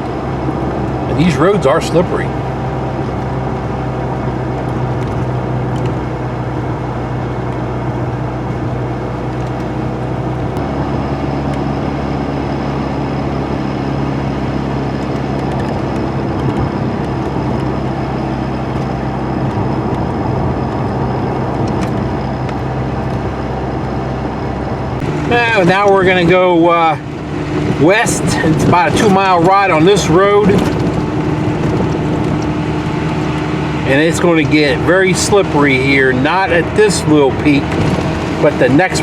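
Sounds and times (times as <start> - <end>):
truck engine: 0.0 - 39.0
tyre noise on snowy road: 0.0 - 39.0.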